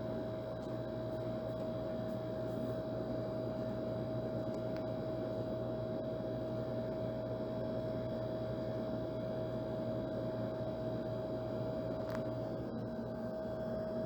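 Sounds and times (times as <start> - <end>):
steady mid-pitched whine: 0.0 - 14.0.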